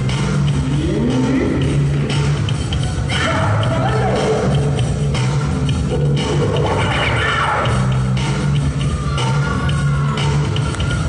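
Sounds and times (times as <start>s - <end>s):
dance music over loudspeakers: 0.0s - 11.0s.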